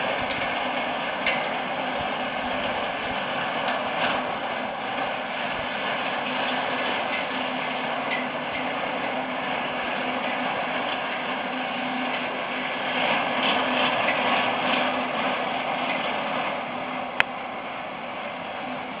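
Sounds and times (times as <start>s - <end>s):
horse-drawn mower clattering: 0.0s - 19.0s.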